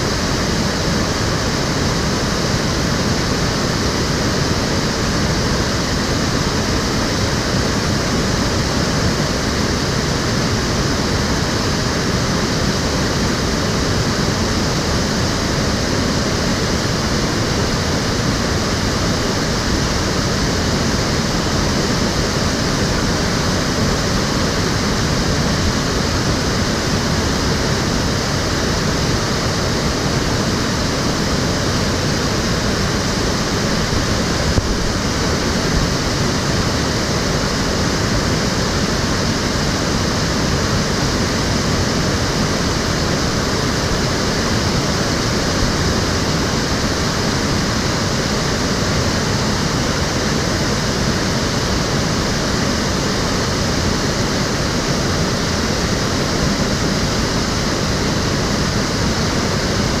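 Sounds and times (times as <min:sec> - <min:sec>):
stream water rushing over stones: 0:00.0 - 1:00.0.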